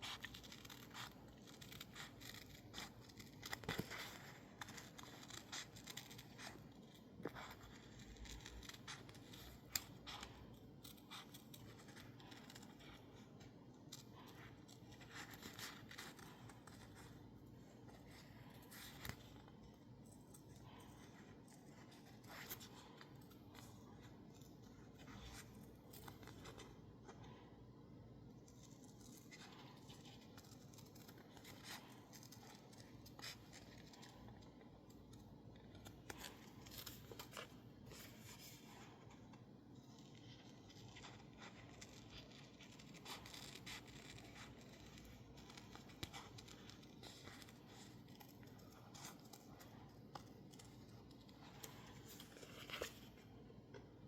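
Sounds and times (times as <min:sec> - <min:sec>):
scissors snipping paper: 0:00.0 - 0:27.6, 0:28.2 - 0:53.9.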